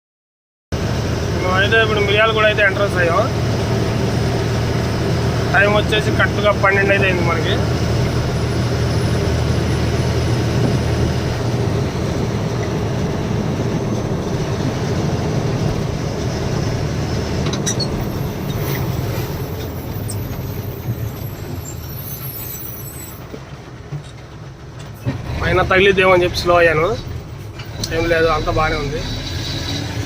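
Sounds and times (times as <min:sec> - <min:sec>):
road noise: 0:00.7 - 0:30.0
truck diesel engine drone: 0:00.8 - 0:30.0.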